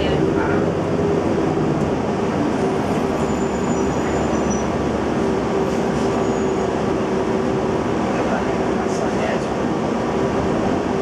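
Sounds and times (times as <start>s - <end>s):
bus interior engine drone: 0.0s - 11.0s.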